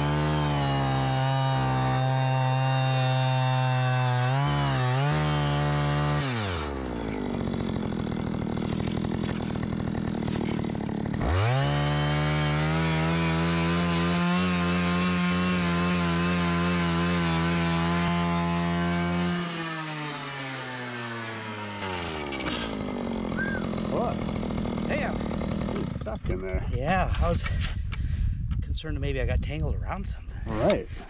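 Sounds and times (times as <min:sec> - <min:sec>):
ice auger engine drilling: 0:00.0 - 0:28.1.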